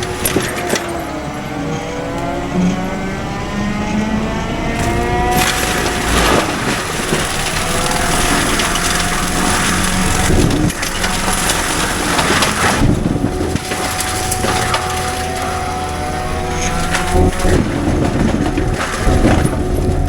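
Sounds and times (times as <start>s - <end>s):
wood cracking and snapping: 0.0s - 2.8s, 4.8s - 20.0s
excavator engine and hydraulics: 0.0s - 20.0s.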